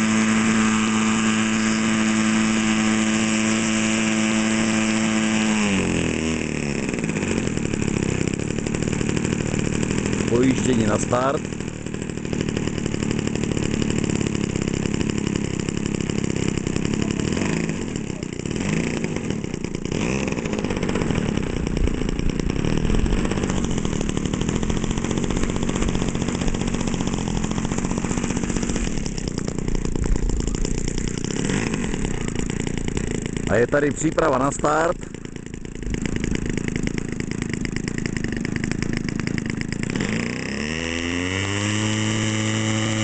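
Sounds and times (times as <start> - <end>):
model plane engine running: 0.0 - 43.0.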